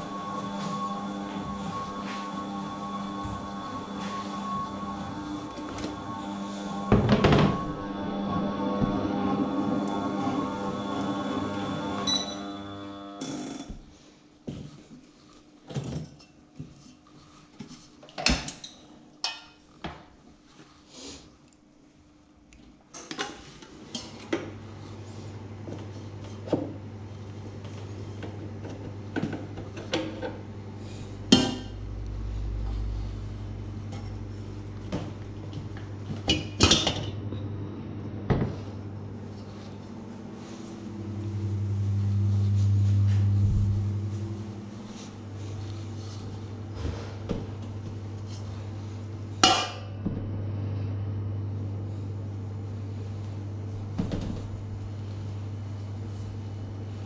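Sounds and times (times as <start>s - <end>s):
low machine hum: 0.0s - 18.0s, 21.4s - 57.0s.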